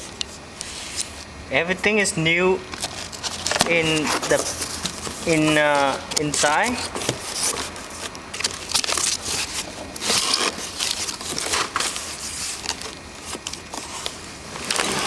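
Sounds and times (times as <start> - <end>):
packaging crinkling: 2.6 - 15.0.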